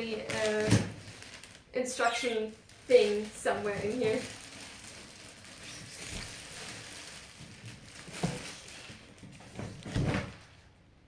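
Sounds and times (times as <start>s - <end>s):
cardboard and styrofoam rustling: 0.0s - 10.7s.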